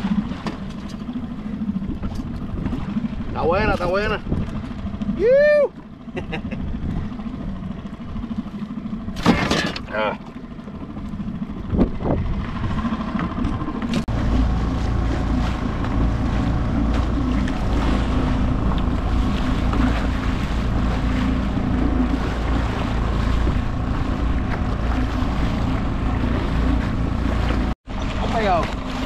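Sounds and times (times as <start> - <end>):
outboard motor running: 0.0 - 29.0
water splashing off hull: 0.0 - 29.0
wind buffeting microphone: 1.2 - 5.4, 6.5 - 8.4, 10.7 - 29.0.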